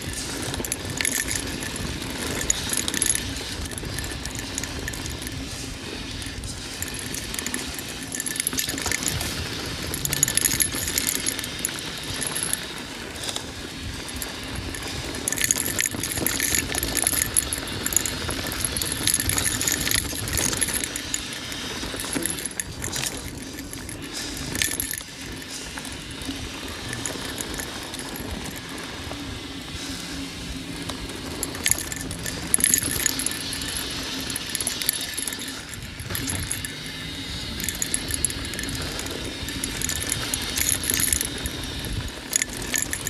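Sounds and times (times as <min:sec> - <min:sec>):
bike rattling over rocks: 0:00.0 - 0:43.0.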